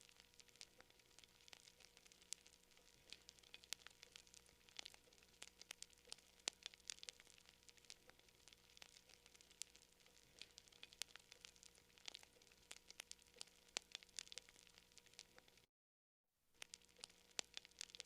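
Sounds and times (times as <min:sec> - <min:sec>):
campfire crackling: 0:00.0 - 0:15.7, 0:16.6 - 0:18.0
faint hiss: 0:00.0 - 0:15.7.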